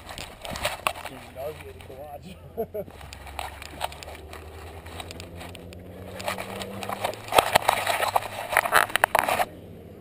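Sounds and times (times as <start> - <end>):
hand rustling on camera: 0.0 - 9.5.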